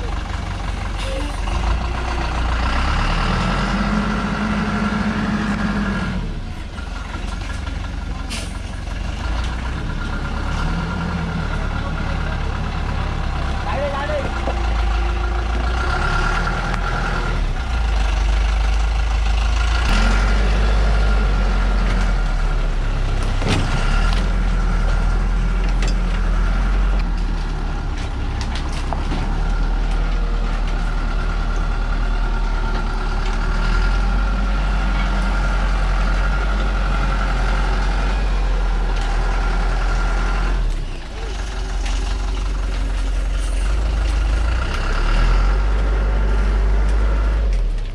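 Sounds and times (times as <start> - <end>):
truck diesel engine under load: 0.0 - 47.9.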